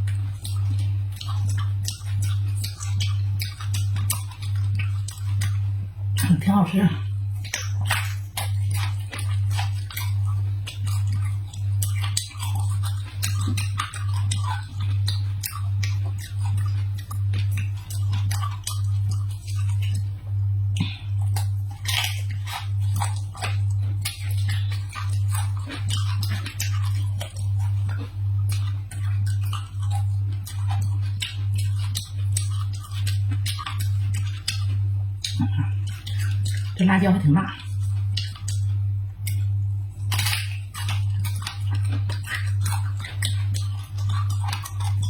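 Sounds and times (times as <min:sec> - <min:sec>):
chewing and crunching: 0:00.0 - 0:45.0.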